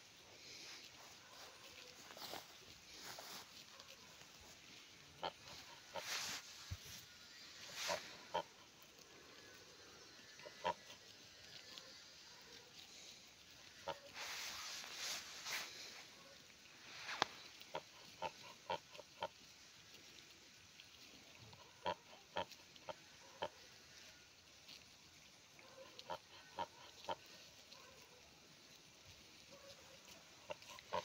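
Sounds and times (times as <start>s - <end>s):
geese giving soft calls: 0.0s - 24.5s, 25.4s - 31.0s.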